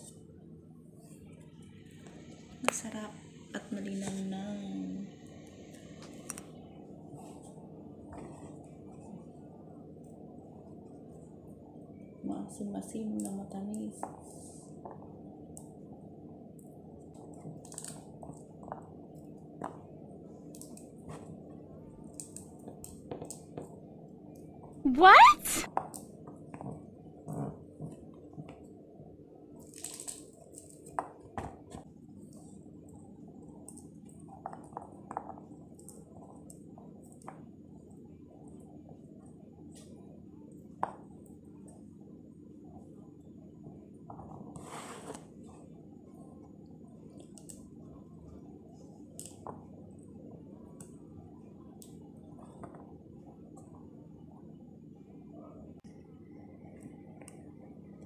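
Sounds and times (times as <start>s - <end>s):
low steady background noise: 0.0s - 58.0s.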